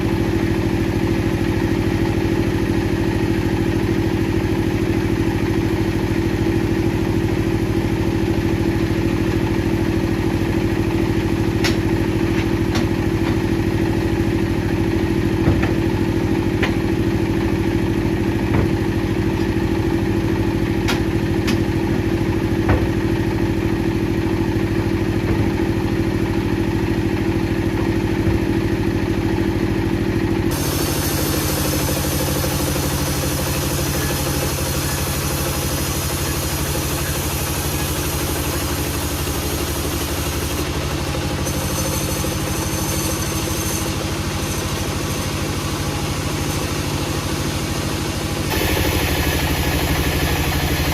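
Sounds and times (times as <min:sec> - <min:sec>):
different machine running: 0:00.0 - 0:50.9
heavy machinery humming: 0:00.0 - 0:50.9.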